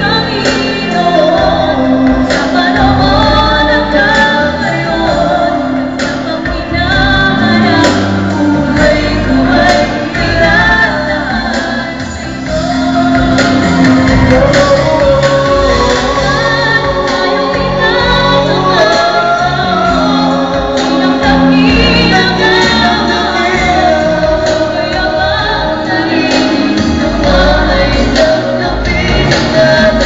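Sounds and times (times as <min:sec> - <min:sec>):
choir singing gospel song: 0:00.0 - 0:30.0
instrumental backing with steady beat: 0:00.0 - 0:30.0.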